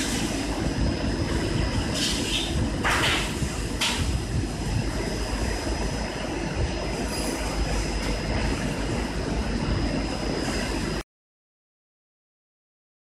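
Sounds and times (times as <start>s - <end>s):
high whine: 0.0s - 11.0s
oven fan rumble: 0.0s - 11.0s.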